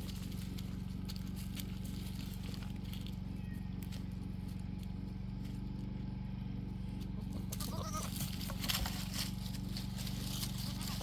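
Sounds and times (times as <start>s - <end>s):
goats rustling through brush: 0.0s - 11.0s
steady low hum: 0.0s - 11.0s.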